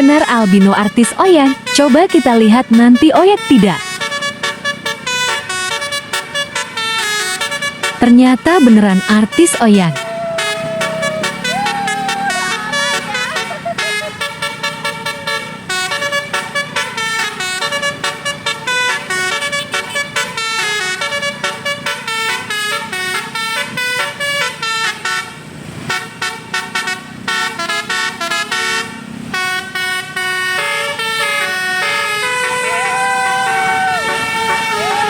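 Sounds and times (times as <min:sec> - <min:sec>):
multi-tone bus horn melody: 0:00.0 - 0:35.0.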